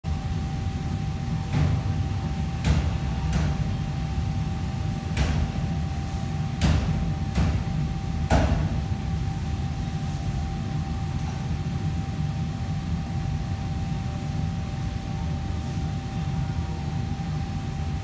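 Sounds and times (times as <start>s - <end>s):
faint high hum: 0.1s - 18.0s.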